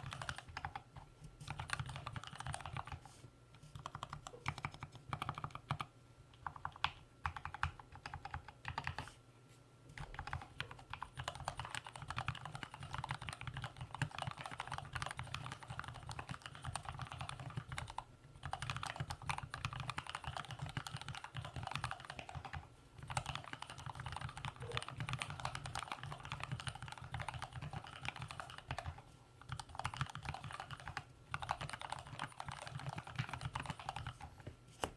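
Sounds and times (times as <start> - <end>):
mechanical keyboard typing: 0.0 - 0.8, 1.5 - 3.0, 3.7 - 9.0, 10.0 - 34.3.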